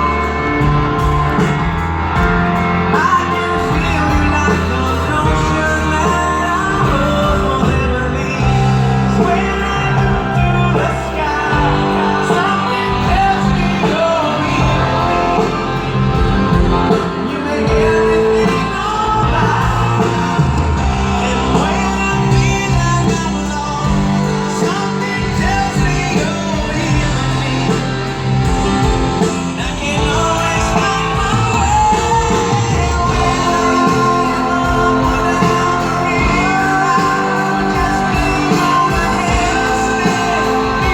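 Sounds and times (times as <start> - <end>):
live rock band: 0.0 - 40.9
person singing: 0.0 - 40.9.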